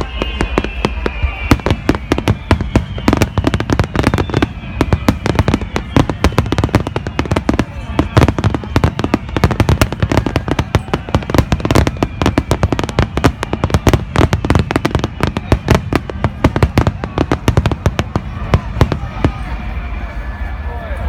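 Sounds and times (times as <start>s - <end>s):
fireworks bursting: 0.0s - 19.8s.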